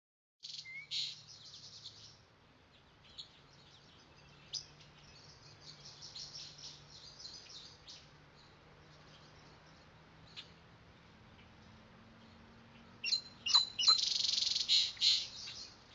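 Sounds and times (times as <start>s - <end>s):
small birds chirping: 0.4s - 15.9s.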